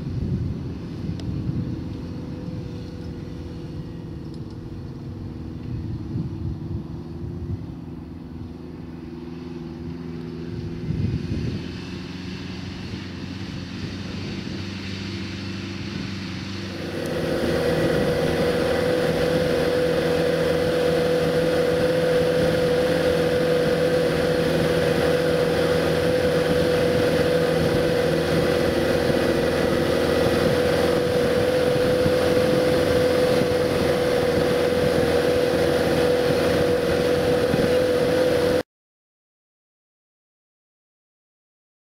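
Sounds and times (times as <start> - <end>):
crop sprayer engine running: 0.0 - 38.6
strong steady whine: 0.0 - 38.6.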